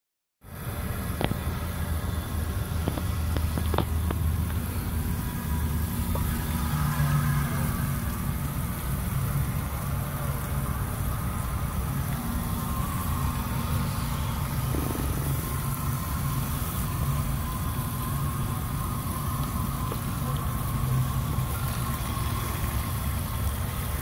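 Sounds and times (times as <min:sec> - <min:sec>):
water splashing onto ground: 0:02.7 - 0:24.0.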